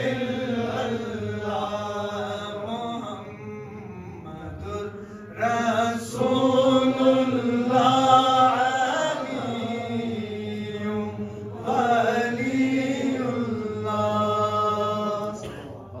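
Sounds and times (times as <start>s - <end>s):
man chanting into microphone: 0.0s - 16.0s.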